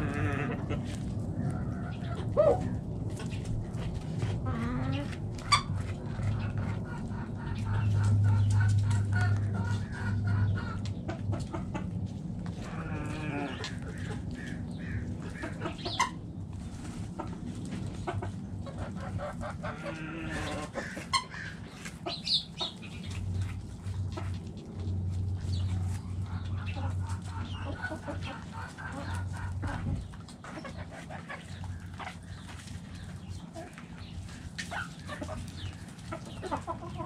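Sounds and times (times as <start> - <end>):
hens clucking: 0.0 - 37.0.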